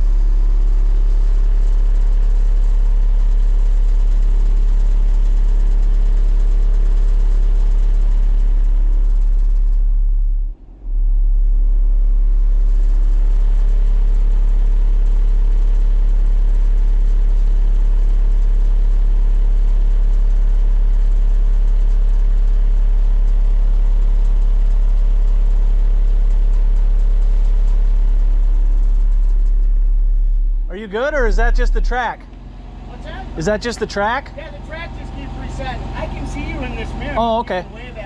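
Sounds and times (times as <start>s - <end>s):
loud low bass test tone: 0.0s - 38.0s.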